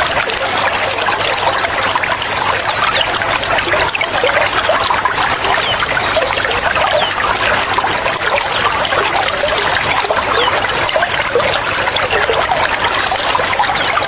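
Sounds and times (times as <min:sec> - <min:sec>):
small birds chirping: 0:00.0 - 0:14.0
water trickling and pouring: 0:00.0 - 0:14.0.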